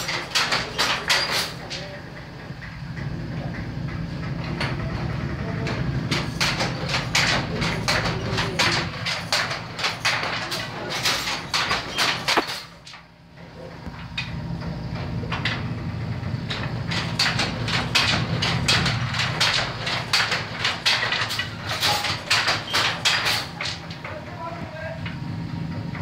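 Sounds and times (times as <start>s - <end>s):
loom clattering with wooden knocks: 0.0s - 26.0s.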